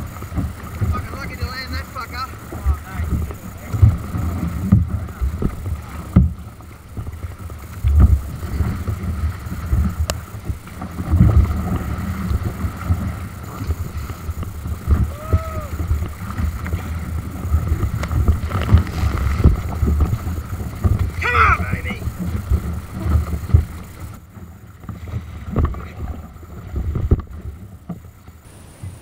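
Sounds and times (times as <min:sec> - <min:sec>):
paddle strokes splashing: 0:00.0 - 0:29.0
water rushing past hull: 0:00.0 - 0:29.0
wind rumbling on microphone: 0:00.0 - 0:29.0.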